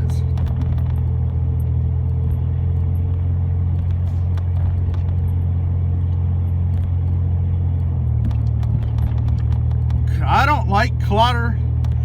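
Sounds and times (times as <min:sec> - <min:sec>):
truck engine and road hum: 0:00.0 - 0:12.0.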